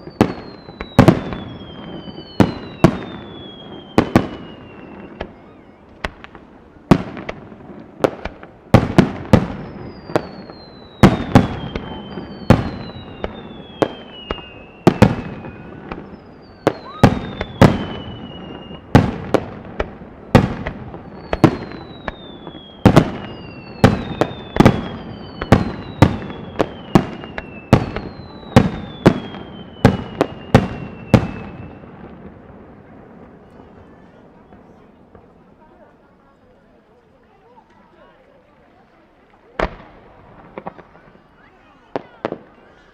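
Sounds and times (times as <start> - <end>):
fireworks bursting with sharp bangs: 0.0 - 36.4, 37.4 - 42.9
whistling fireworks: 0.0 - 42.9.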